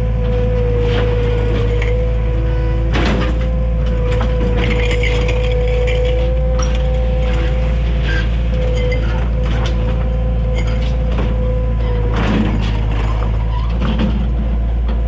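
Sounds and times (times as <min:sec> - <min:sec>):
constant whine: 0:00.0 - 0:15.0
diesel engine running: 0:00.0 - 0:15.0.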